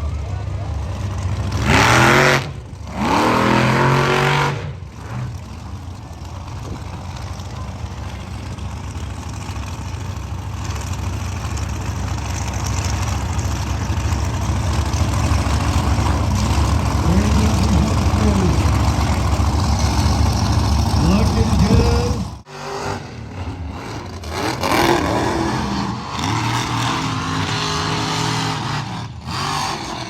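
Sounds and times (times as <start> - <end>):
vehicle engine revving and rumbling: 0.0 - 30.0.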